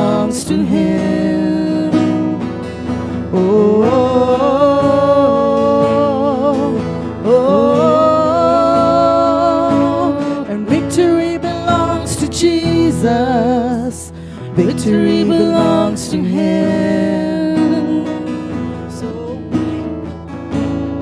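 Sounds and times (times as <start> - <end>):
person singing long held notes: 0.0 - 19.8.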